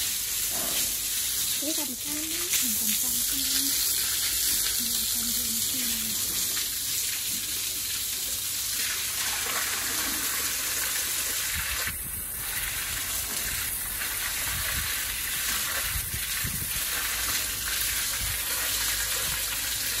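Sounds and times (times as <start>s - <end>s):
hose spraying water: 0.0s - 20.0s.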